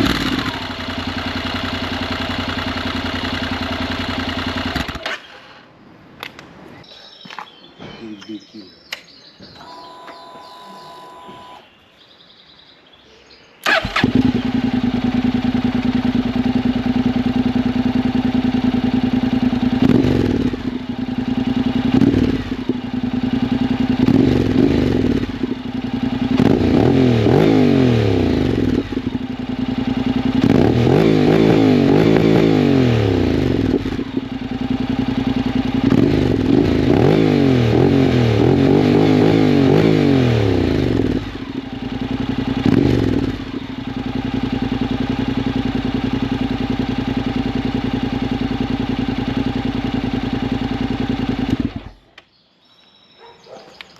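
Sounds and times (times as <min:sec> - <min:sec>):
motorcycle engine revving: 0:00.0 - 0:05.4, 0:13.6 - 0:52.2.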